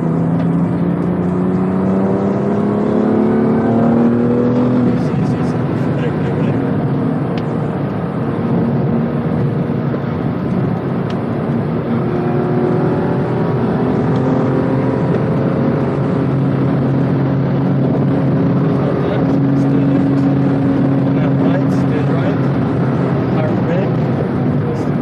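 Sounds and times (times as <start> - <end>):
car engine revving under load: 0.0 - 25.0.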